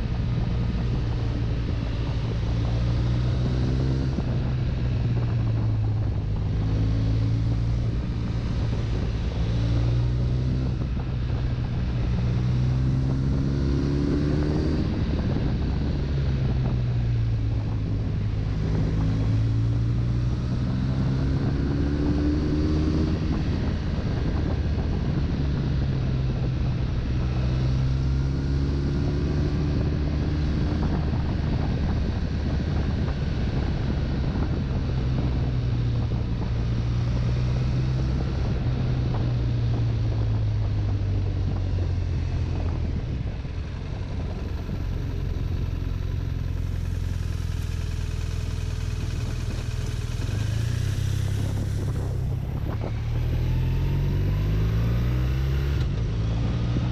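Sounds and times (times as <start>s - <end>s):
motorcycle engine cruising: 0.0s - 56.9s
wind on microphone: 0.0s - 56.9s.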